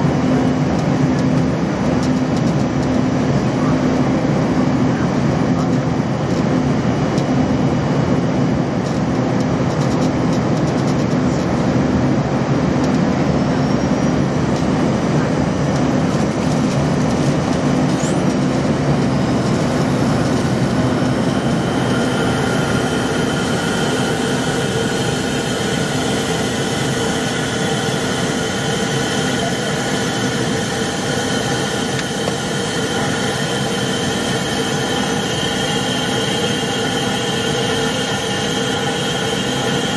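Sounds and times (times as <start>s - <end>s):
jet cabin engine rush: 0.0s - 39.9s
steady whining tones: 0.0s - 39.9s.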